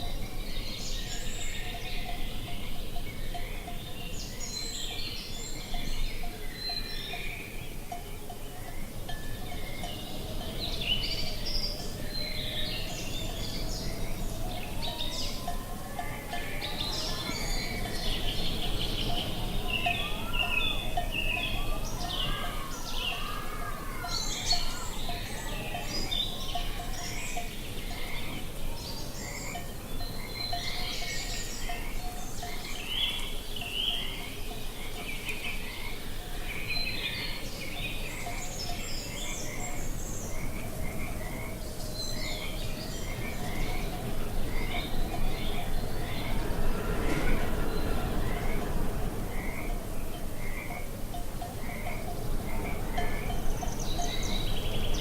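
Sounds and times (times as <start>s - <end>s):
birds chirping and trilling: 0.0s - 55.0s
rush of wind: 0.0s - 55.0s.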